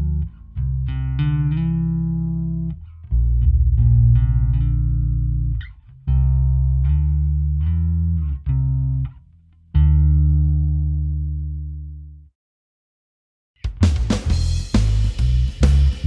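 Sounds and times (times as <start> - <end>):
bass guitar plucked notes: 0.0 - 12.2, 13.7 - 16.0.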